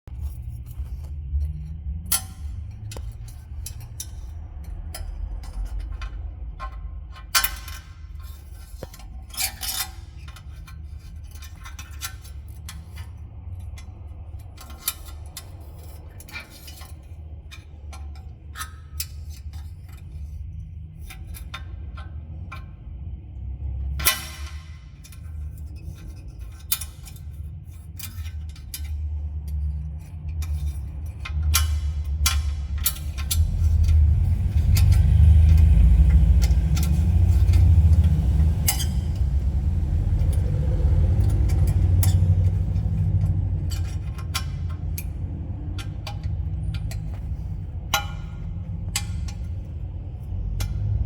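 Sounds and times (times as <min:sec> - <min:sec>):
steady low hum: 0:00.0 - 0:51.0
metallic clicks and clinks: 0:00.1 - 0:51.0.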